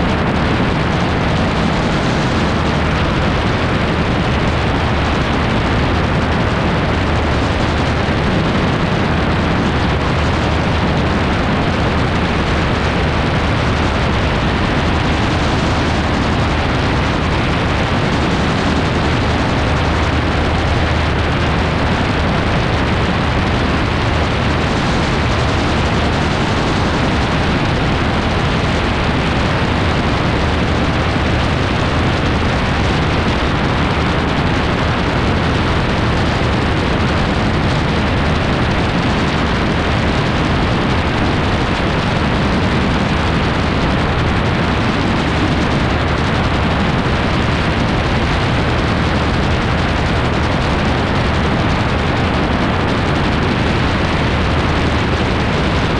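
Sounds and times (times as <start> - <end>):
aircraft engine and propeller: 0.0 - 55.9
wind buffeting microphone: 0.0 - 55.9.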